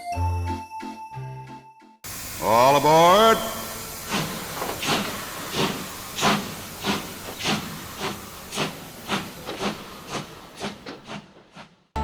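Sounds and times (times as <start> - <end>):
steam locomotive exhaust chuffing: 2.0 - 11.9.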